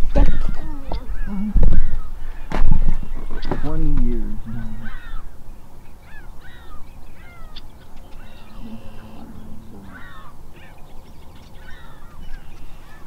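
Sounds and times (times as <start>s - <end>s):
birds making harsh falling calls: 0.0s - 13.0s
low background noise: 0.0s - 13.0s.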